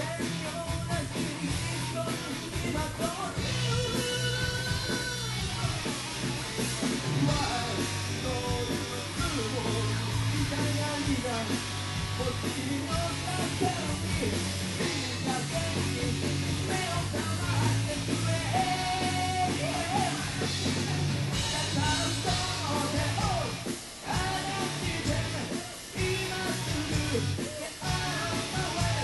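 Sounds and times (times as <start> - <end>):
person singing: 0.0 - 5.9, 7.2 - 29.0
live rock band playing: 0.0 - 29.0.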